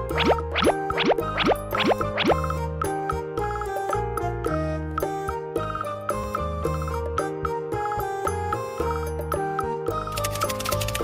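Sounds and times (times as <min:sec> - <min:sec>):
light bouncy music: 0:00.0 - 0:11.0.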